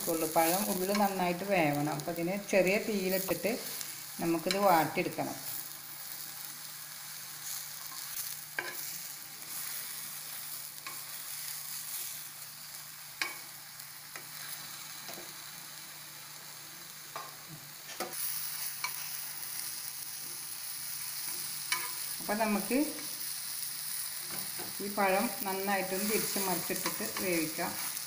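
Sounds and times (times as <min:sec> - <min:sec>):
bananas sizzling in frying pan: 0:00.0 - 0:28.0.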